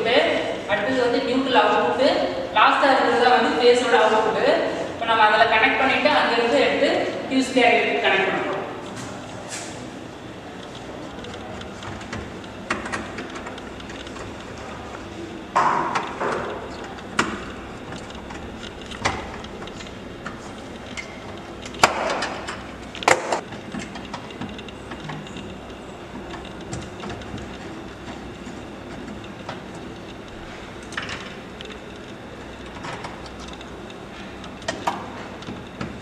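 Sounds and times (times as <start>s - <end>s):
steady background noise: 0.0s - 36.0s.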